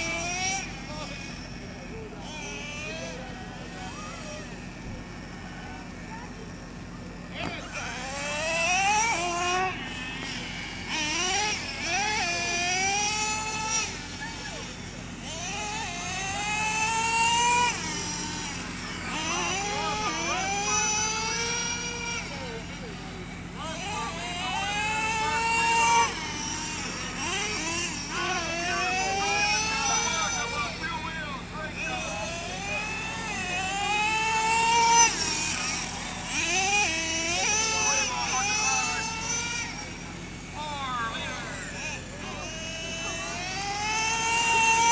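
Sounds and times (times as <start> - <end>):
rc car motors whining: 0.0 - 44.9.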